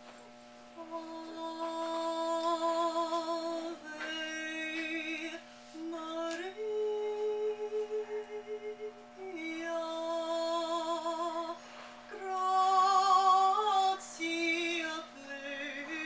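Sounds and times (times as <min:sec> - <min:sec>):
woman singing with vibrato: 0:00.8 - 0:16.0.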